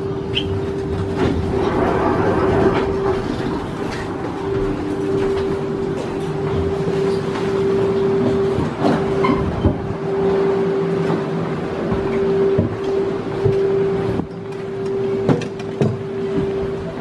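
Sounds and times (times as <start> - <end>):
rumble of train cars: 0.0 - 17.0
train whine: 0.0 - 17.0.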